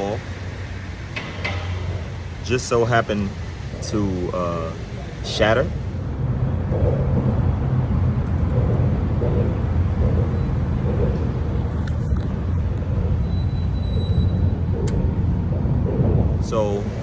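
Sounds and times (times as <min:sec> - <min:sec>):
vehicle rumble: 0:00.0 - 0:17.0.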